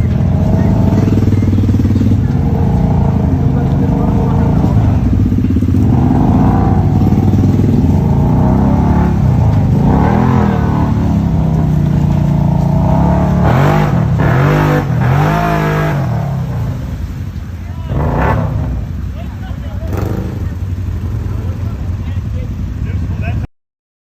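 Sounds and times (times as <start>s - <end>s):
car engine revving: 0.0s - 23.4s.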